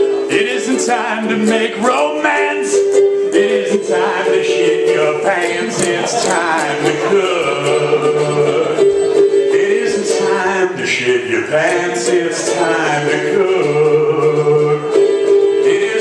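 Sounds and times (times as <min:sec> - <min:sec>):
man singing: 0:00.0 - 0:16.0.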